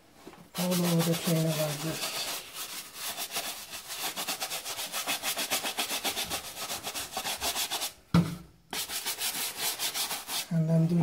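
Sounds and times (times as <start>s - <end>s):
brush scrubbing a shoe: 0.5s - 8.0s, 8.8s - 10.5s.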